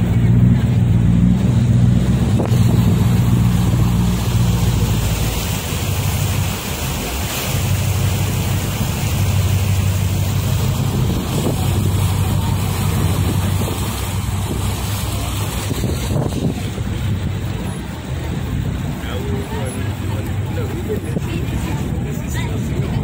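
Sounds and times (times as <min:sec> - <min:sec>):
boat engine humming: 0:00.0 - 0:23.0
water rushing past hull: 0:00.0 - 0:23.0
wind buffeting microphone: 0:00.0 - 0:23.0.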